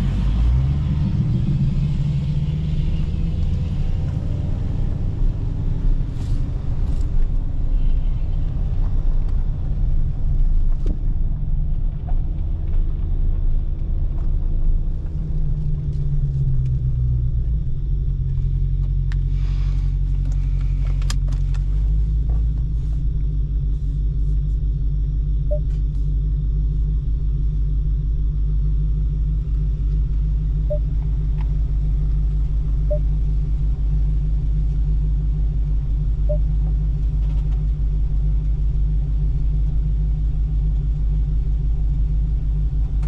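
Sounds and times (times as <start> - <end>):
car engine rumbling: 0.0 - 43.0.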